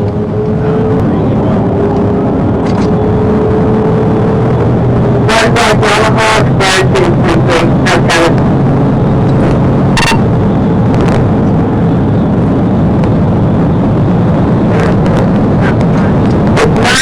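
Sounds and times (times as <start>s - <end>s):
car driving at speed: 0.0s - 17.0s
road and wind noise: 0.0s - 17.0s.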